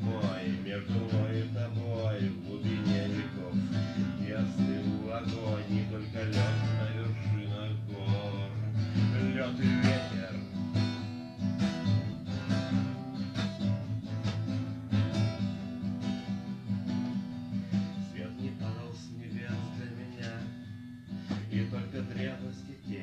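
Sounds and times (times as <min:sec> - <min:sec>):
guitar strumming: 0:00.0 - 0:23.0.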